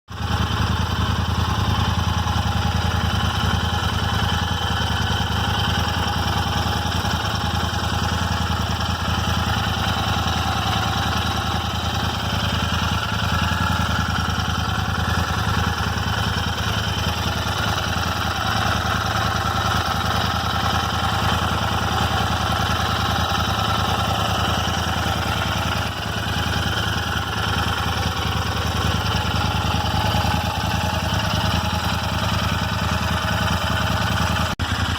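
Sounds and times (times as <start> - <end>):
engine ticking: 0.1 - 34.9
motorcycle engine idling: 0.1 - 34.9.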